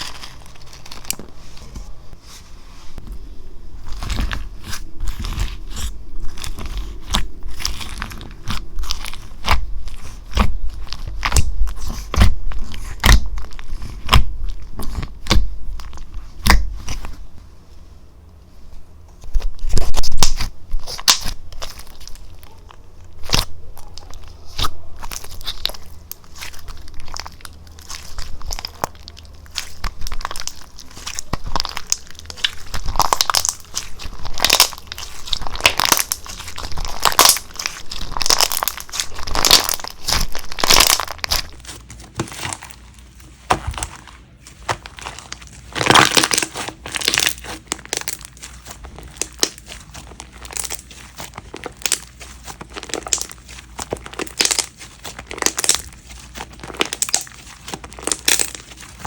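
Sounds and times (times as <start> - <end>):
slime squishing and popping: 0.0 - 2.0, 3.8 - 17.3, 19.2 - 59.0.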